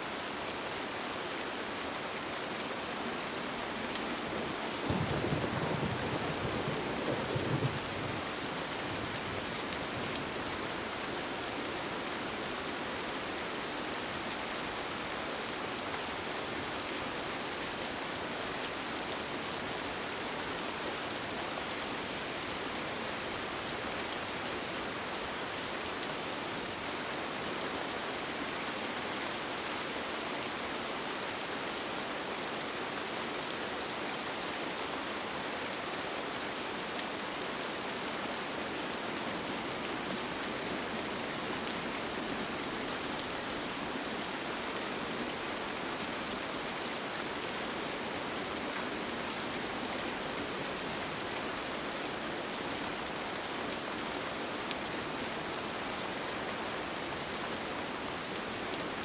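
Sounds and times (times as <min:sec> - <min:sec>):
rain falling on a tent: 0:00.0 - 0:59.0.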